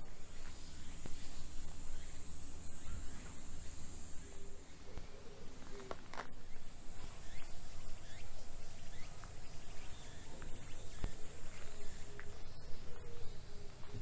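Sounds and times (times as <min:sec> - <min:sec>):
bird chirps: 0:00.0 - 0:14.0
cicadas droning: 0:00.0 - 0:14.0.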